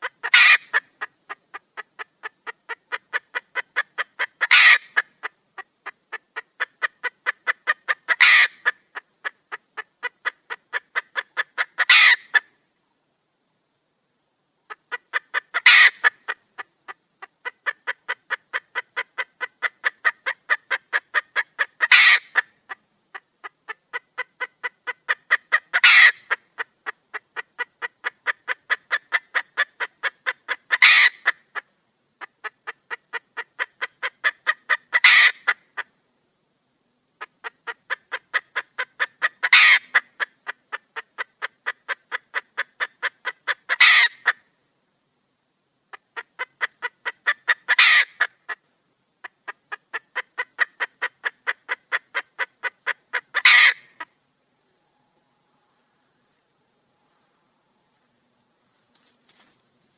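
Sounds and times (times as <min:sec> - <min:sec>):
hen calling: 0:00.0 - 0:12.5, 0:14.7 - 0:35.9, 0:37.4 - 0:44.4, 0:46.1 - 0:48.6, 0:49.2 - 0:54.8
hen clucking rapidly: 0:00.0 - 0:12.5, 0:14.6 - 0:36.0, 0:37.2 - 0:44.4, 0:45.9 - 0:54.2.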